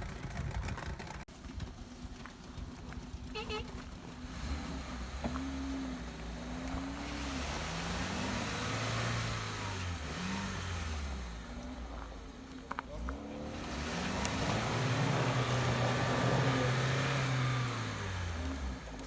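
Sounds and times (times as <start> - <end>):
off-road vehicle engine revving: 3.4 - 19.0.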